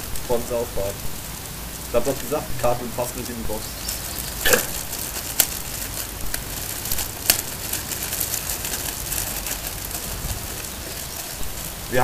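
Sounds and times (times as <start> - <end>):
plastic bag crinkling: 2.0 - 12.0.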